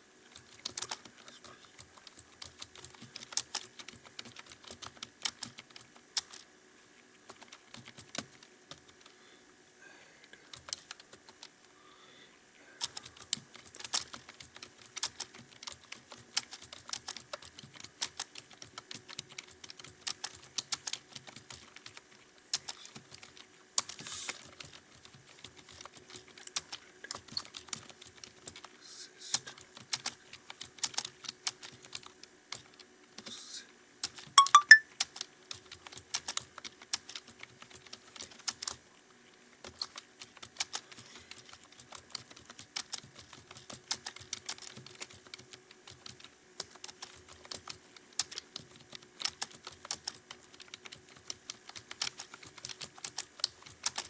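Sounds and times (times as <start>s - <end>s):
typing on a computer keyboard: 0.3s - 6.5s, 7.1s - 9.1s, 10.5s - 11.6s, 12.8s - 28.7s, 29.3s - 33.3s, 34.0s - 38.8s, 39.6s - 54.0s.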